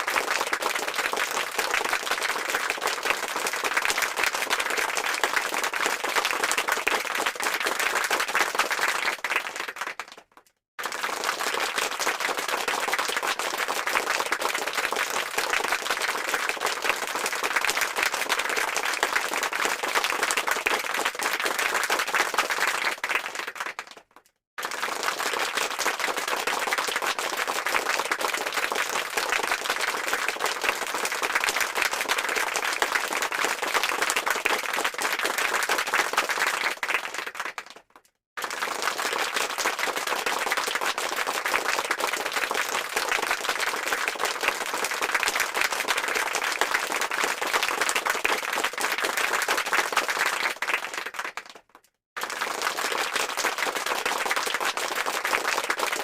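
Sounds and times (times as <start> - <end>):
crowd clapping: 0.0 - 56.0.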